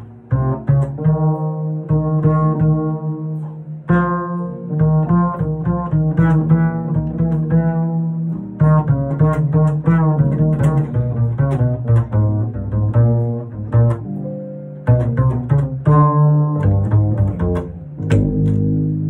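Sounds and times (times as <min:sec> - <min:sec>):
double bass plucked notes: 0:00.0 - 0:19.0.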